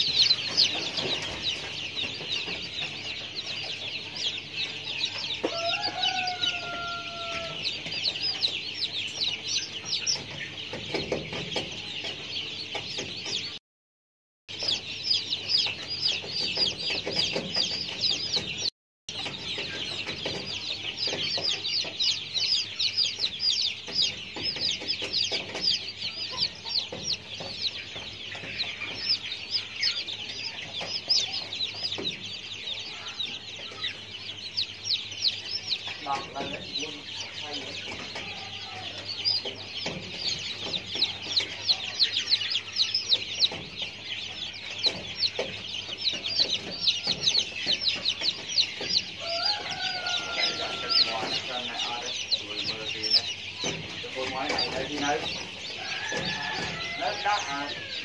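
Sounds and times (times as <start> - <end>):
birds chirping rapidly: 0.0 - 13.6, 14.5 - 58.0.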